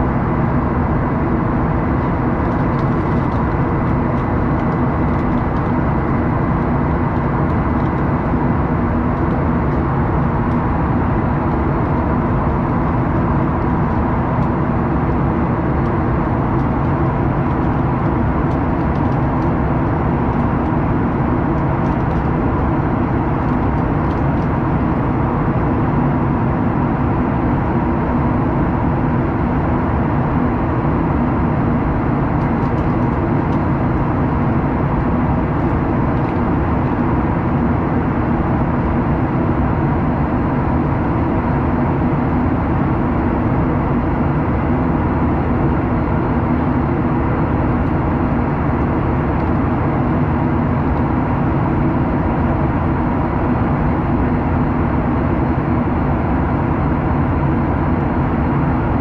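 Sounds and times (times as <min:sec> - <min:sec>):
jet engine and airflow rush: 0:00.0 - 0:59.0.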